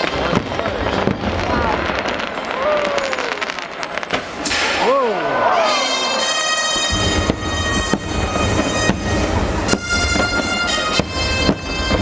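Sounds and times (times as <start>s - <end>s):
fireworks bursting with sharp cracks: 0.0s - 12.0s.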